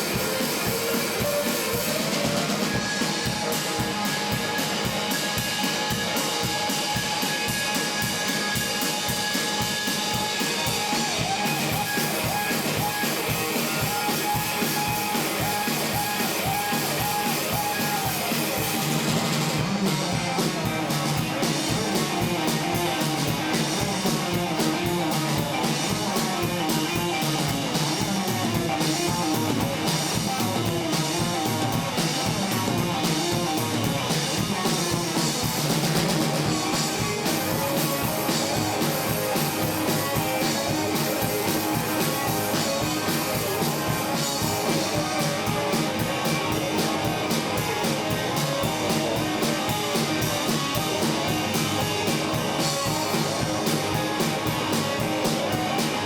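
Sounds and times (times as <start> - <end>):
drum kit beat: 0.0 - 56.0
guitar: 0.0 - 56.0.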